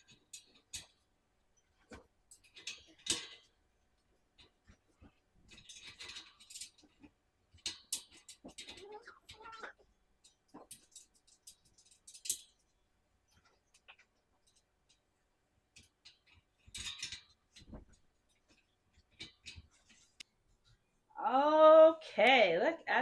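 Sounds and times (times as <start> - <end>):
parts clicking and knocking: 0.0 - 20.9.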